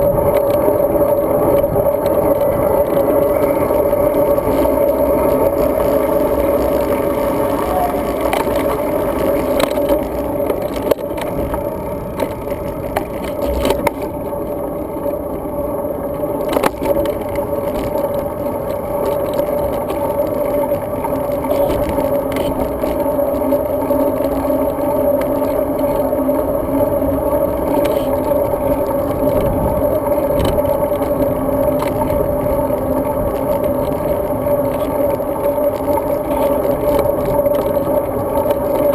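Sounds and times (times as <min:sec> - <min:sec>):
bike tyre and wind rumble: 0:00.0 - 0:38.9.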